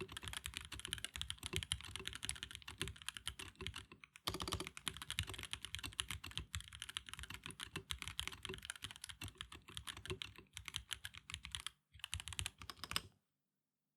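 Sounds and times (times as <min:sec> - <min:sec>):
fast mechanical keyboard typing: 0:00.0 - 0:13.1.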